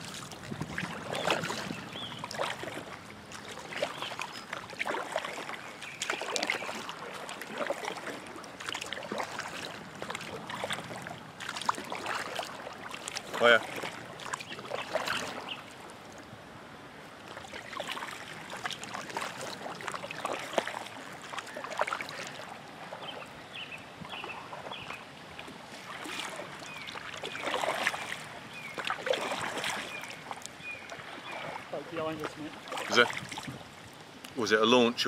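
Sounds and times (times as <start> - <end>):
paddle strokes splashing in water: 0.0 - 16.4, 17.0 - 34.0
water running off paddle blades: 0.0 - 35.0.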